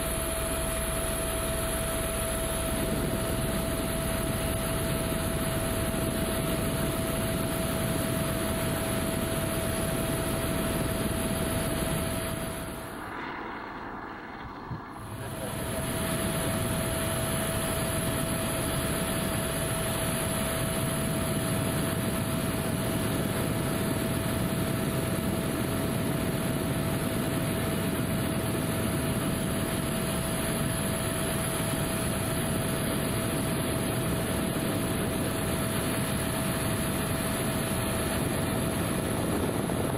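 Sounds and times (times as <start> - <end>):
mid-pitched whine: 0.0 - 24.6, 29.2 - 39.9
helicopter engine and rotor noise: 0.0 - 39.9.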